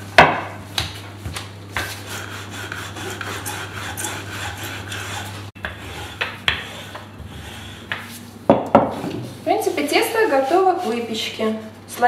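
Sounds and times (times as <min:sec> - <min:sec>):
rolling pin rolling over dough: 0:00.2 - 0:12.0.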